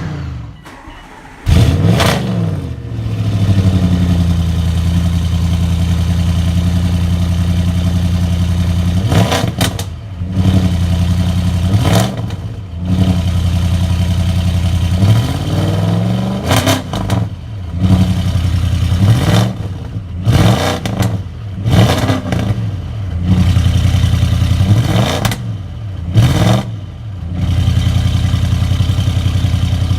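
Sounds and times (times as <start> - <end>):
car exhaust idling and revving: 1.5 - 29.9.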